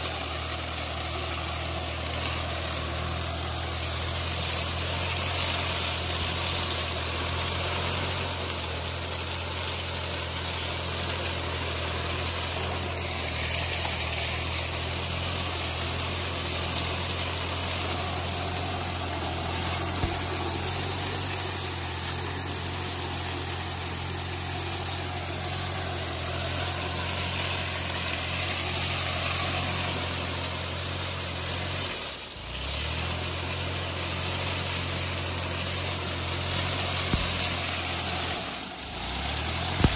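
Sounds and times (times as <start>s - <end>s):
mulcher shredding leaves: 0.0s - 39.9s
tractor diesel engine running: 0.0s - 39.9s.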